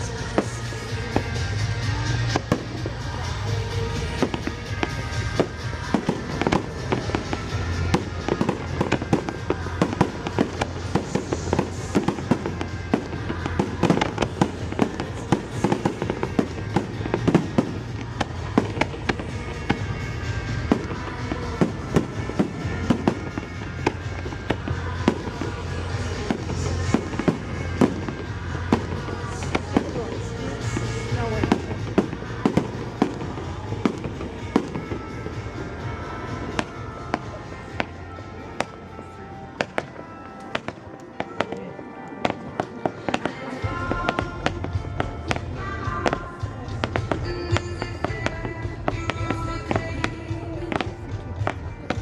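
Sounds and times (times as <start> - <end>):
fireworks bangs and crackles: 0.0 - 52.0
music over loudspeakers: 0.0 - 52.0.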